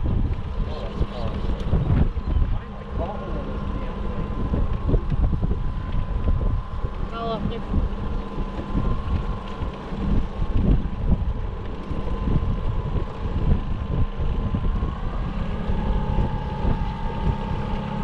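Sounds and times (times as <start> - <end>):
outboard motor running: 0.0 - 18.0
wind buffeting microphone: 0.0 - 18.0.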